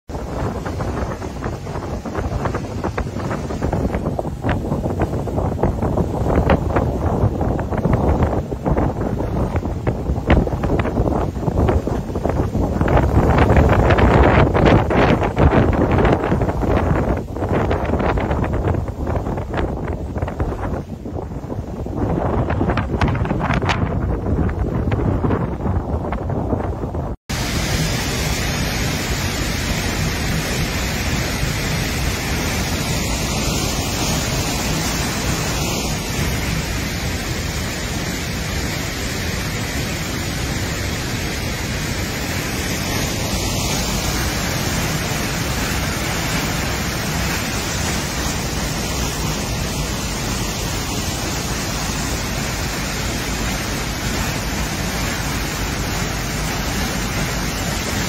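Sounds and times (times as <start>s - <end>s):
waterfall rushing and splashing: 0.1s - 58.0s.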